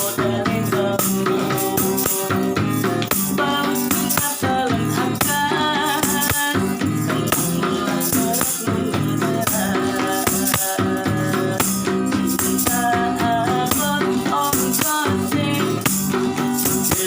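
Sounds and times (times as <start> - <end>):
person singing: 0.0 - 17.0
shaker rhythm: 0.0 - 17.0
strummed acoustic guitar: 0.0 - 17.0.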